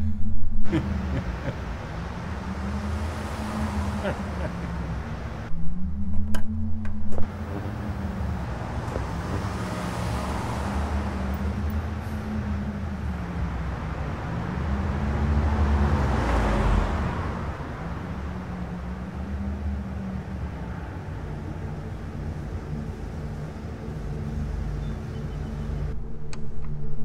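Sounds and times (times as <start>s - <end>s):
vehicle passing: 0.0s - 6.0s, 6.6s - 26.0s
street traffic rumbling: 0.0s - 27.0s.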